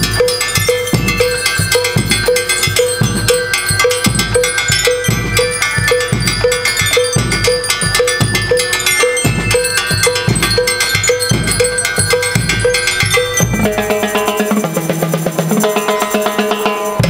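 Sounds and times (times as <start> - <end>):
bell lyres ringing melody: 0.0 - 17.0
cowbell: 0.0 - 17.0
marching drums: 0.0 - 17.0.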